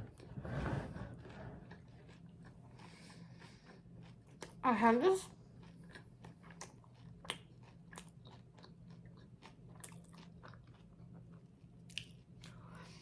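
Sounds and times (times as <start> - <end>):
chewing and biting food: 1.1 - 4.6, 5.2 - 12.7.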